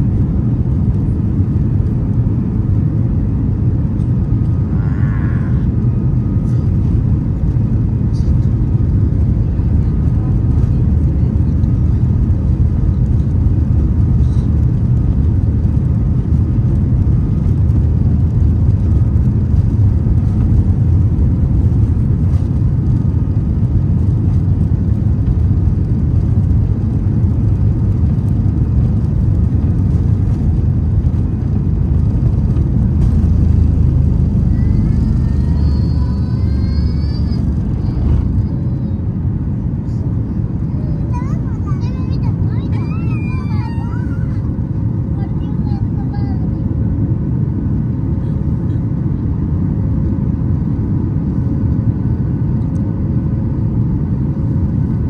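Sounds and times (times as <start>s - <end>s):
jet engines at takeoff thrust: 0.0s - 55.0s
takeoff roll rumble: 0.0s - 55.0s.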